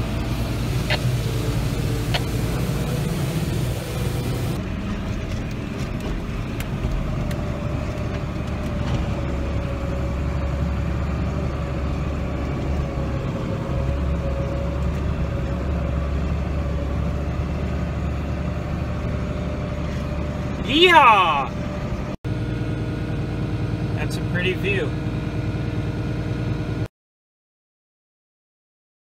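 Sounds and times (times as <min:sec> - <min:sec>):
engine drone: 0:00.0 - 0:26.9.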